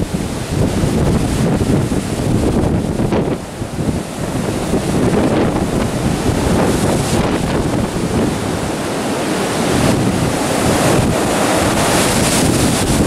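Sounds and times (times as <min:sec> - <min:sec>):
gale wind through treetops: 0:00.0 - 0:13.0
wind buffeting microphone: 0:00.0 - 0:13.0.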